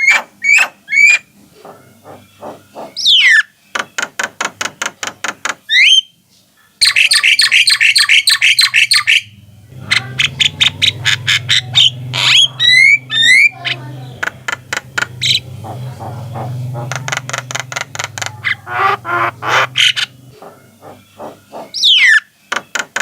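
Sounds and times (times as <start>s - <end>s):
mynas calling: 0.0s - 3.8s, 6.8s - 22.8s.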